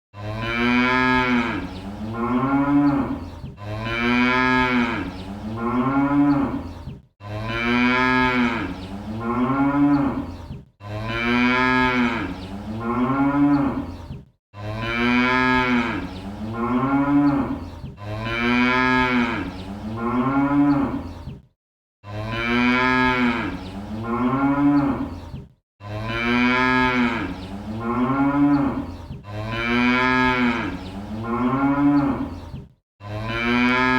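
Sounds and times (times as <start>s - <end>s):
cattle mooing: 0.2s - 14.0s, 14.6s - 21.1s, 22.0s - 25.2s, 25.8s - 32.4s, 33.0s - 33.9s.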